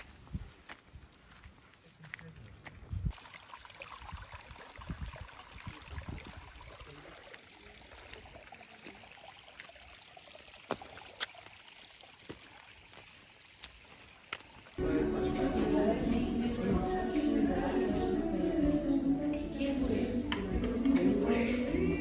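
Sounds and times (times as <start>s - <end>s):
flowing water rushing: 3.1s - 22.0s.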